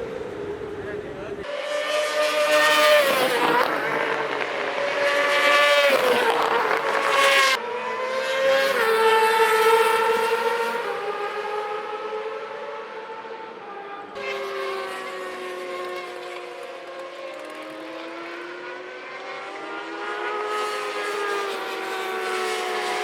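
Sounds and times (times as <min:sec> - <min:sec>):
racing motorcycles at high revs: 0:01.4 - 0:23.0.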